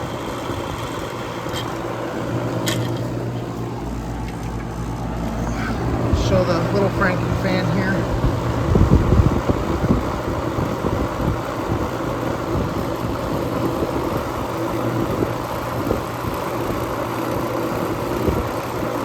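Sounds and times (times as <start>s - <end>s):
air buffeting microphone: 0.0s - 16.4s
air conditioner compressor hum: 0.0s - 19.0s
fan rushing: 0.0s - 19.0s.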